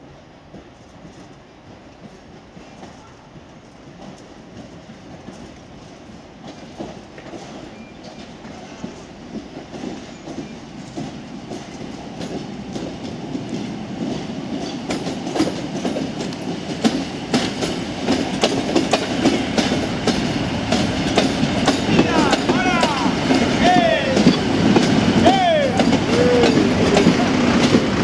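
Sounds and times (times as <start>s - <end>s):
train wheels clattering over rail joints: 0.5s - 28.0s.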